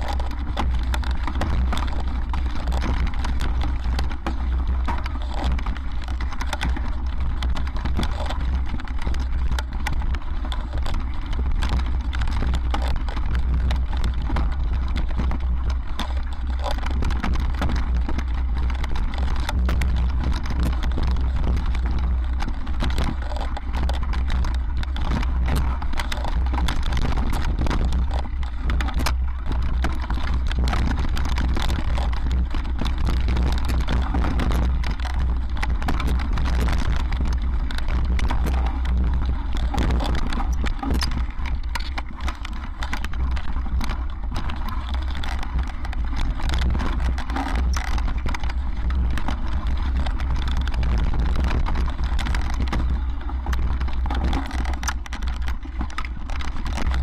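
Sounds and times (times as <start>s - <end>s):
bike rattling over stones: 0.0s - 57.0s
wind rumble on microphone: 0.0s - 57.0s.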